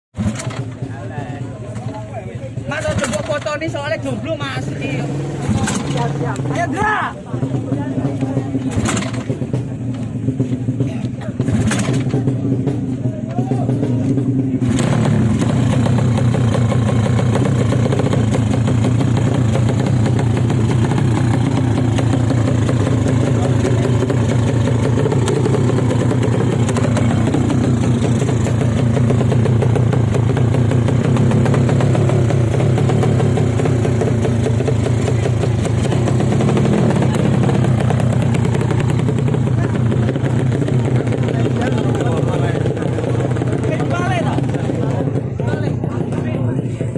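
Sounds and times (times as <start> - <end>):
motorcycle engine running: 0.1 - 46.9.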